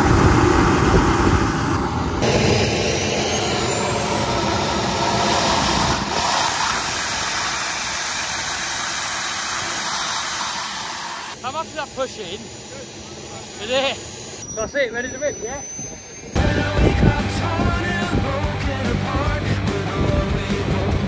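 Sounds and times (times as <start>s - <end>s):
jet turbine engine spooling up: 0.0s - 18.4s.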